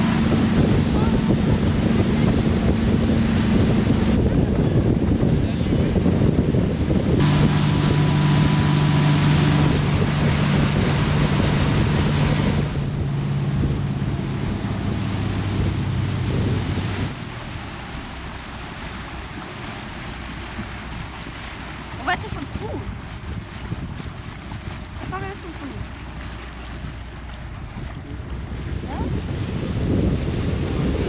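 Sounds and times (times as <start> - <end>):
motorboat engine drone: 0.0 - 31.0
rushing water: 0.0 - 31.0
wind buffeting microphone: 0.0 - 31.0.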